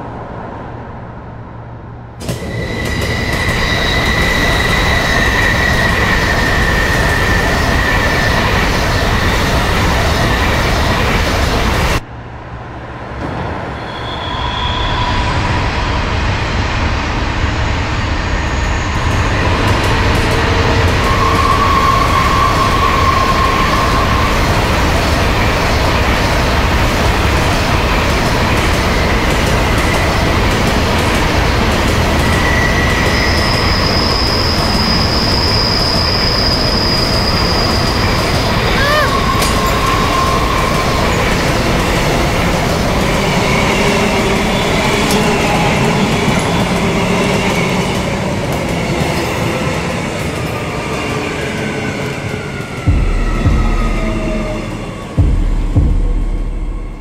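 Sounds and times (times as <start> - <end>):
train rumbling: 0.0 - 57.0
train wheel squeal: 2.2 - 12.0, 13.2 - 55.2.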